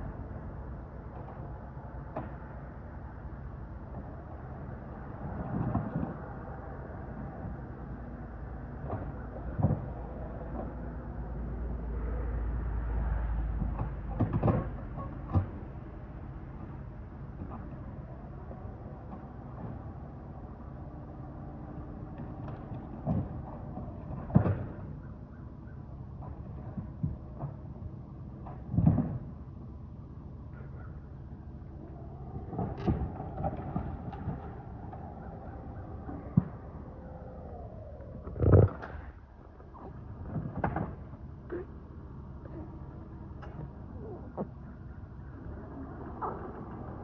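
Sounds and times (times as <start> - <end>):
engine running: 0.0 - 47.0
low rumble: 0.0 - 47.0.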